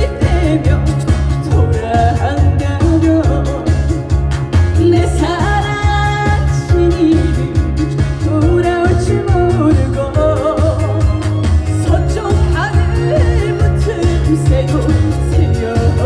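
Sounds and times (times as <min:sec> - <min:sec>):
instrumental music with heavy beat: 0:00.0 - 0:16.0
woman singing: 0:00.0 - 0:16.0.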